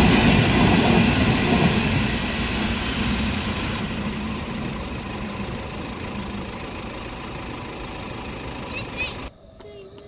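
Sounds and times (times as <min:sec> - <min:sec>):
diesel freight train rumble: 0:00.0 - 0:10.0.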